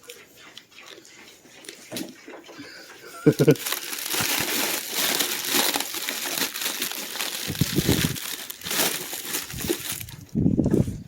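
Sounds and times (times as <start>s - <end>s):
dried feed crackling and crunching: 0.0s - 10.9s.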